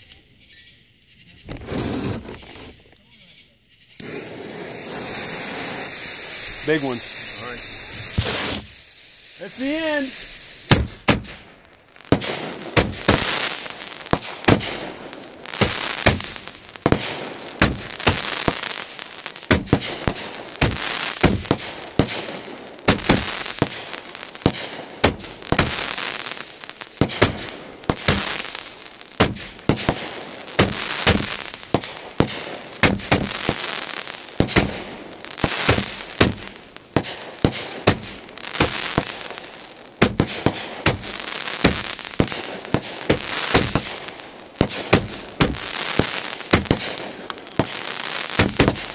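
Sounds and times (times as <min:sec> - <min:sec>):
fireworks bangs: 0:01.4 - 0:02.9, 0:04.0 - 0:48.9
fireworks rushing and crackling: 0:01.4 - 0:03.1, 0:04.0 - 0:48.9.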